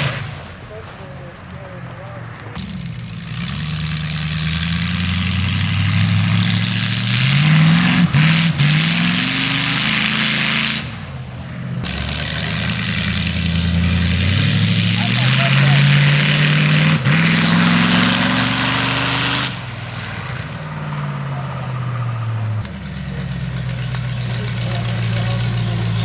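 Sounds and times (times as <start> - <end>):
car engine revving: 0.0 - 26.0
loud rushing exhaust: 0.0 - 26.0.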